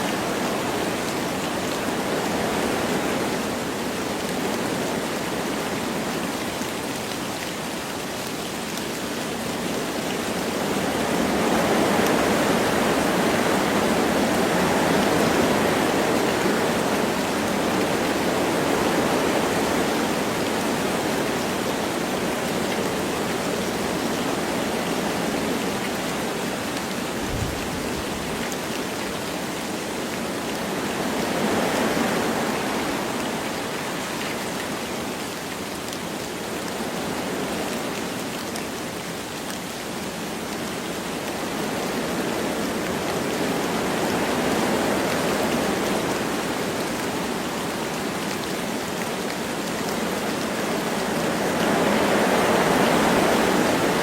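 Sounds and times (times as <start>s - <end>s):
light rain: 0.0s - 54.0s
wind rushing through trees: 0.0s - 54.0s.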